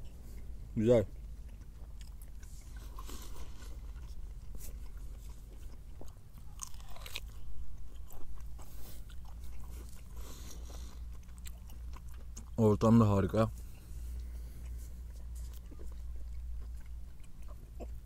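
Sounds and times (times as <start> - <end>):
low steady rumble: 0.0 - 18.0
person chewing meat: 0.0 - 18.0.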